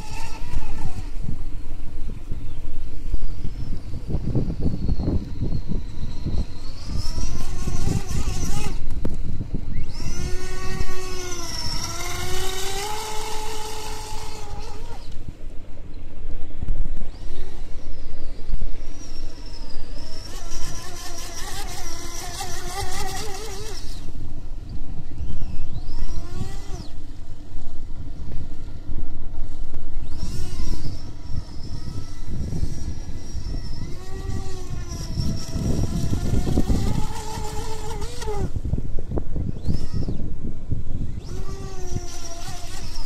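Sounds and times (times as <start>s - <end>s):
electric motor whining: 0.0s - 15.4s, 17.0s - 43.0s.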